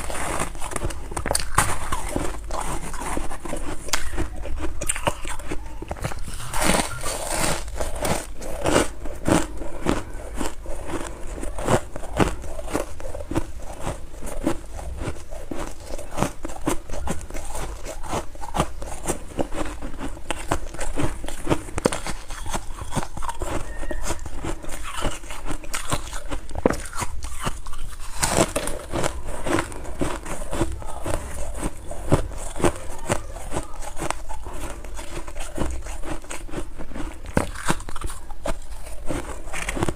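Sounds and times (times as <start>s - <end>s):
person crunching frost: 0.0s - 39.9s.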